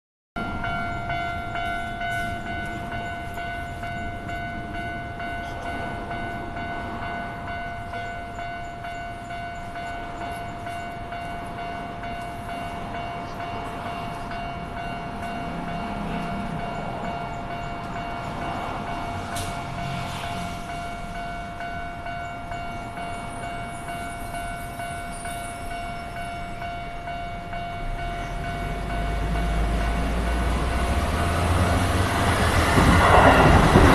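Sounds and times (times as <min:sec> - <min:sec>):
level crossing alarm ringing: 0:00.4 - 0:33.8
train rumble: 0:00.4 - 0:33.9.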